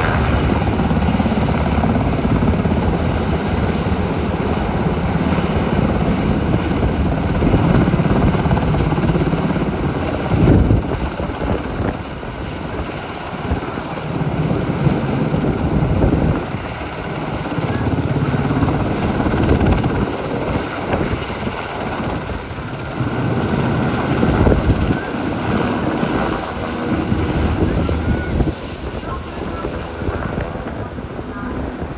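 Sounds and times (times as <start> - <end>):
helicopter rotor and engine noise: 0.0 - 31.9.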